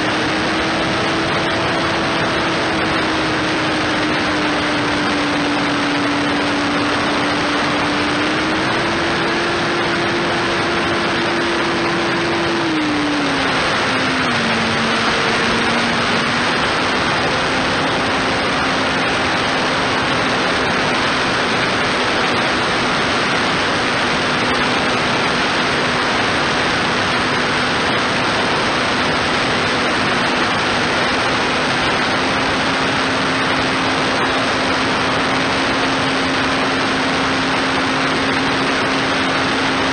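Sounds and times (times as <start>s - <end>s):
electric motor and propeller hum: 0.0s - 39.9s
wind noise: 0.0s - 39.9s.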